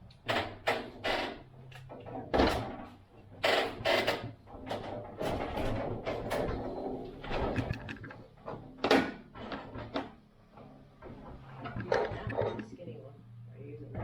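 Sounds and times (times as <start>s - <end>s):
knocks and clatters: 0.2s - 12.7s.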